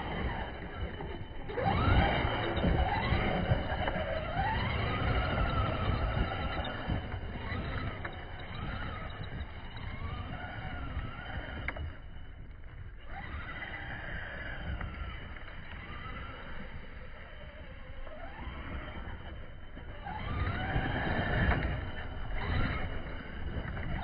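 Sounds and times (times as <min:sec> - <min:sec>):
electric motor whining: 0:00.0 - 0:24.0
tyres scrabbling through dirt: 0:00.0 - 0:24.0.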